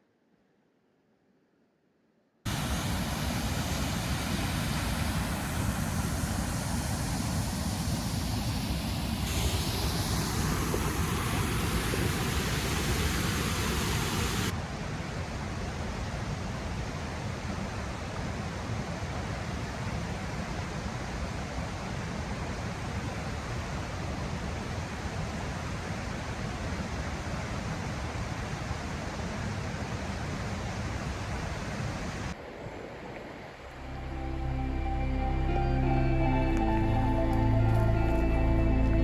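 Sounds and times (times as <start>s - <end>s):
small waterfall rushing: 2.5s - 34.1s.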